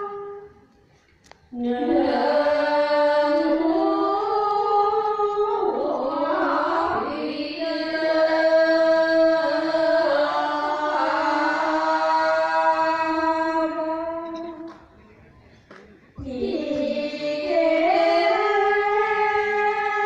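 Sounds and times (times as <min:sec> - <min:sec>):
women chanting in unison: 0:01.5 - 0:14.2, 0:16.2 - 0:20.0.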